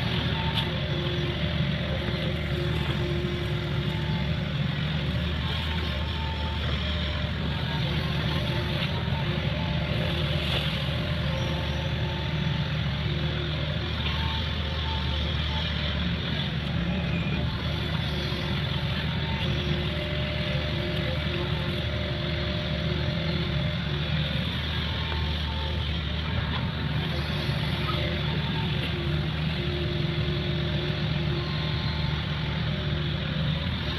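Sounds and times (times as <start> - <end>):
excavator diesel engine: 0.0 - 33.9.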